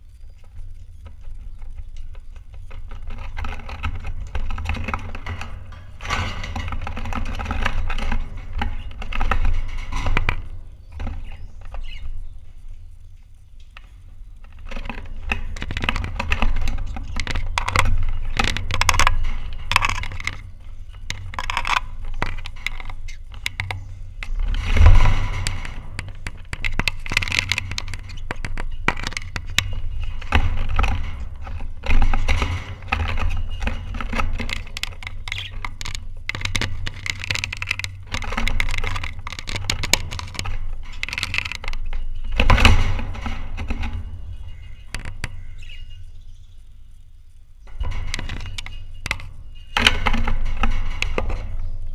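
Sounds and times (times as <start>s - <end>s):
birds clicking and scraping on cage: 0.0s - 51.9s.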